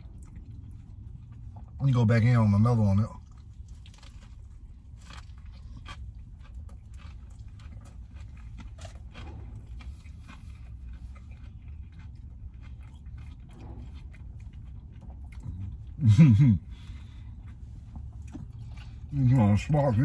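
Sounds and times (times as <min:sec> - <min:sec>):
crunchy chewing: 0:00.0 - 0:02.0, 0:02.6 - 0:20.0
low steady hum: 0:00.0 - 0:20.0.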